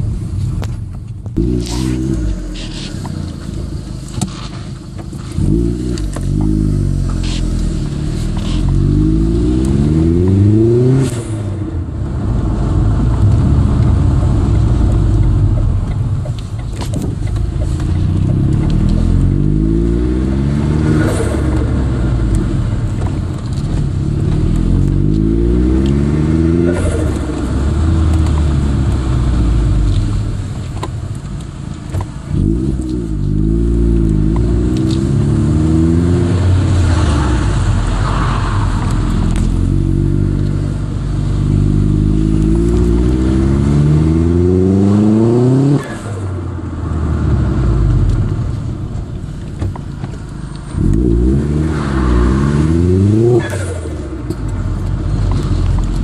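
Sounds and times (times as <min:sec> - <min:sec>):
car engine accelerating through gears: 0:01.2 - 0:30.9, 0:31.9 - 0:56.0.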